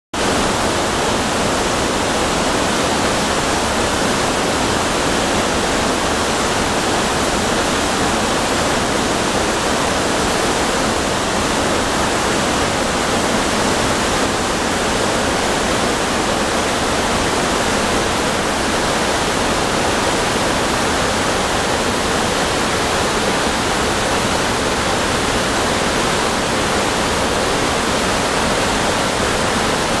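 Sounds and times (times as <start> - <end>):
waterfall rushing onto rock: 0.2 - 30.0.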